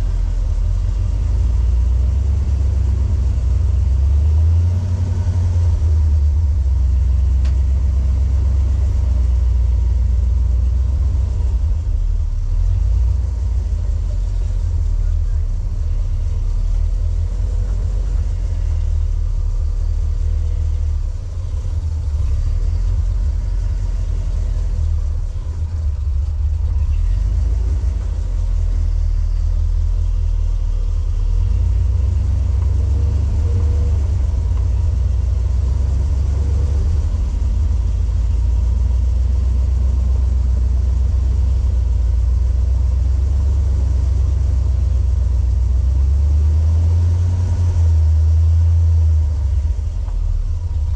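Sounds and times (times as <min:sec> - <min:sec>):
vehicle engine running low speed: 0:00.0 - 0:50.9.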